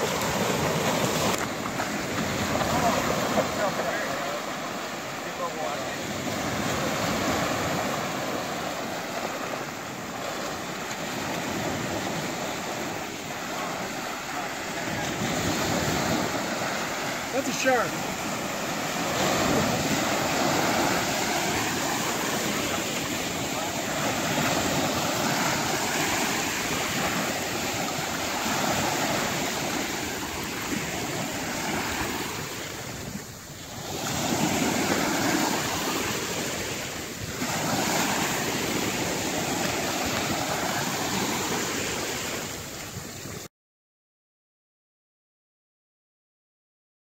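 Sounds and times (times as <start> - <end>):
sea surf breaking: 0.0 - 43.5.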